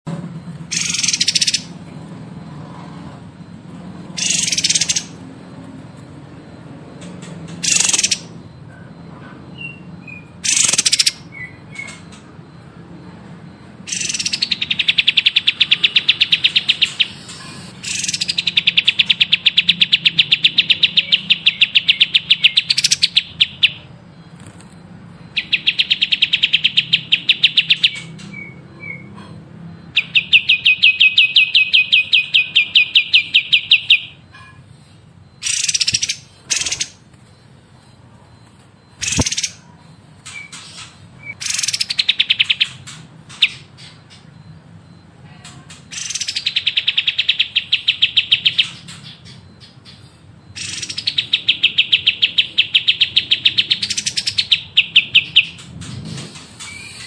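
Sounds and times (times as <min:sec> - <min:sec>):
sharp bird calls: 0:00.7 - 0:01.8, 0:04.2 - 0:05.3, 0:07.2 - 0:12.6, 0:13.5 - 0:24.6, 0:25.2 - 0:45.0, 0:45.6 - 0:57.0
songbird trills: 0:00.7 - 0:01.8, 0:04.1 - 0:05.3, 0:07.0 - 0:08.9, 0:09.5 - 0:12.4, 0:13.8 - 0:57.0.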